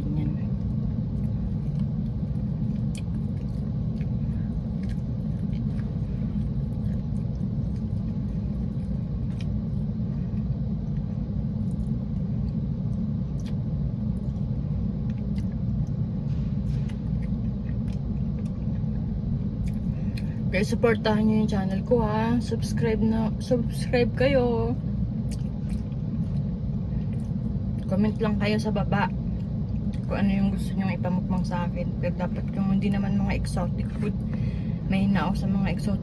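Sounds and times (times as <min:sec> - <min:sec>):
low rumble inside car cabin: 0:00.0 - 0:36.0.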